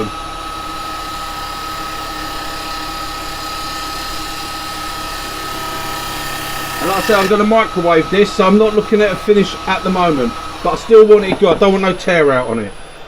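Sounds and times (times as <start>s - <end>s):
wood lathe whining: 0.0s - 13.0s.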